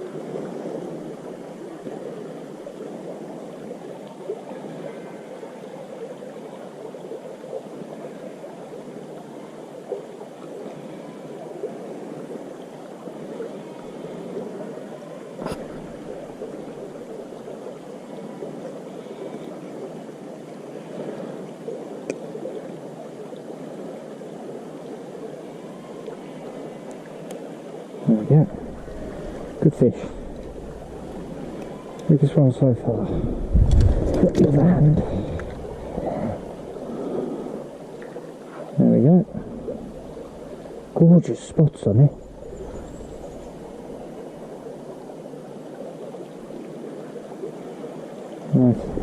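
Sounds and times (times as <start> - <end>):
small river running: 0.0 - 49.0.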